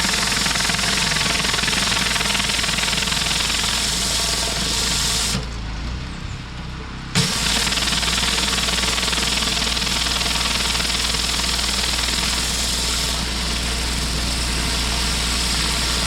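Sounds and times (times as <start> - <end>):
pressure washer spray on concrete: 0.0 - 5.4, 7.2 - 16.0
pressure washer motor hum: 0.0 - 5.5, 7.2 - 16.0.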